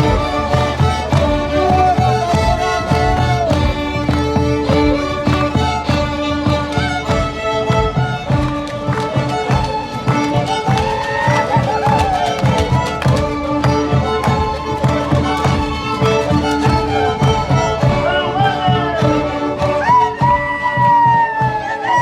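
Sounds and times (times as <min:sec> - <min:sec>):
violins playing folk music: 0:00.0 - 0:22.0.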